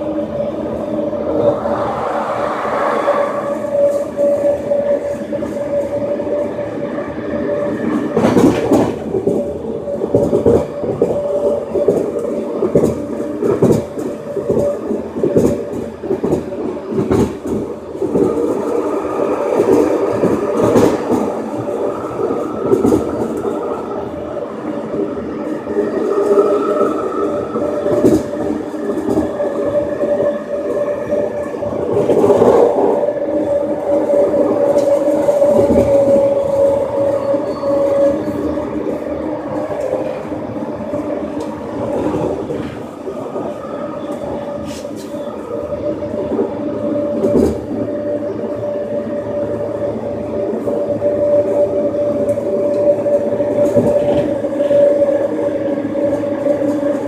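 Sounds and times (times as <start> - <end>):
train running rumble and hum: 0.0 - 57.0.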